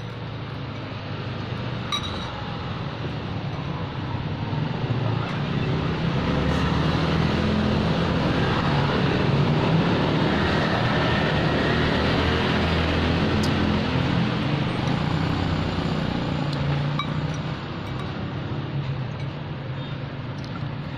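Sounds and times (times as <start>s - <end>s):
street noise: 0.0s - 20.9s.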